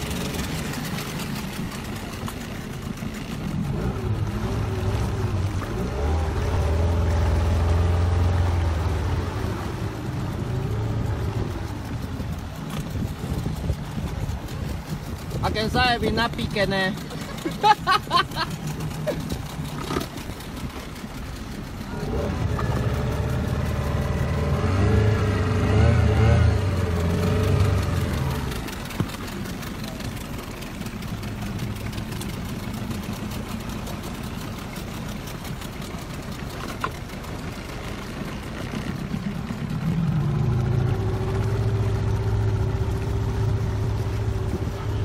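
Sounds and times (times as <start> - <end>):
outboard motor running: 0.0 - 45.0
water wash: 0.0 - 45.0
wind: 0.0 - 45.0.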